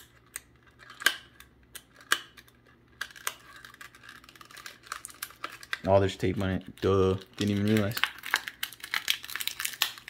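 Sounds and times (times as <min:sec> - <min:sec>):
plastic ticks and crinkles: 0:00.0 - 0:10.0.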